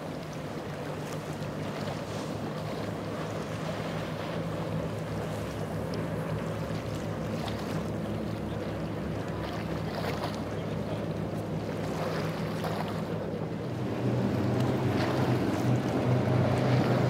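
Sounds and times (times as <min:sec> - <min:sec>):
outboard engine drone: 0:00.0 - 0:17.0
water rushing past hull: 0:00.0 - 0:17.0.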